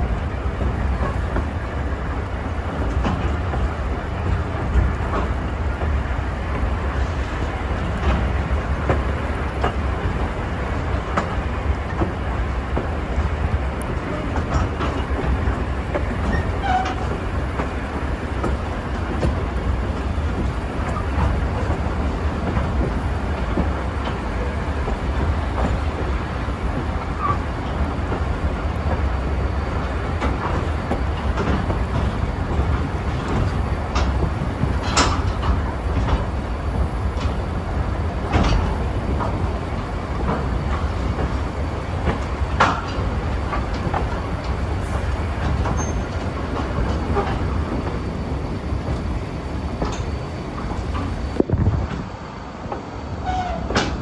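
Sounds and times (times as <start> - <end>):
clicks and knocks of train: 0.0 - 54.0
train rumbling on track: 0.0 - 54.0.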